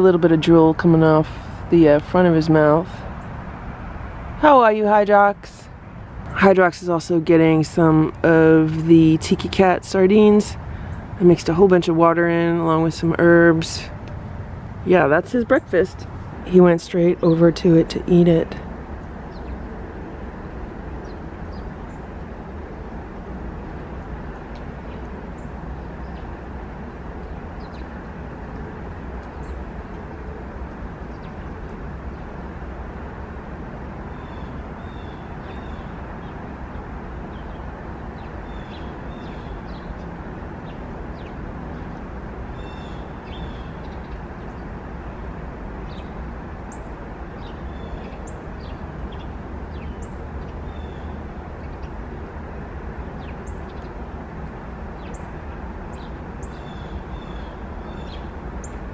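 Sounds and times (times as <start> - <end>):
distant traffic rumble: 0.0 - 58.9.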